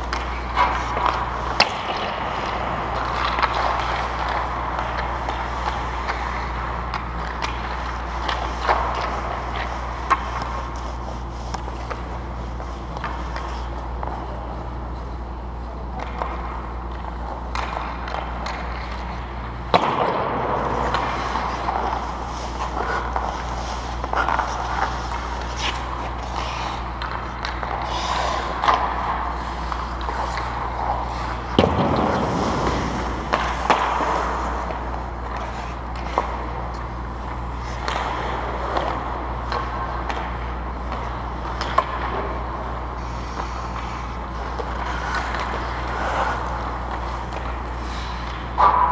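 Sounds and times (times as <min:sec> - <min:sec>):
hockey sticks and pucks clacking: 0:00.0 - 0:48.9
skates scraping on ice: 0:00.0 - 0:48.9
steady low hum: 0:00.0 - 0:48.9.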